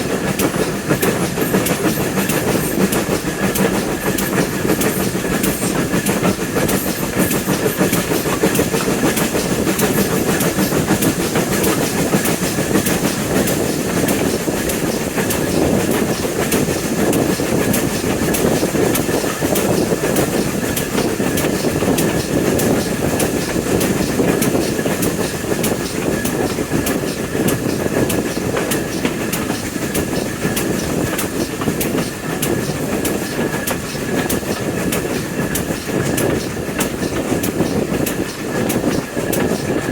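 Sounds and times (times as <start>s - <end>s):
train rumble: 0.0s - 39.9s
train wheels clickety-clack: 0.0s - 39.9s.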